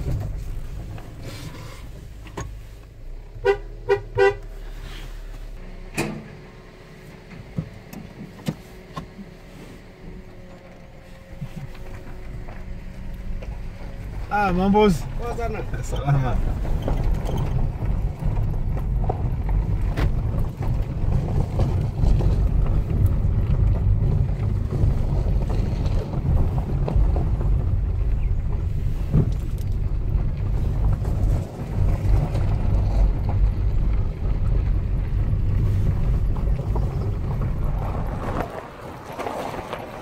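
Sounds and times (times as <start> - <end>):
car engine and tyres rumbling on gravel: 0.0 - 40.0.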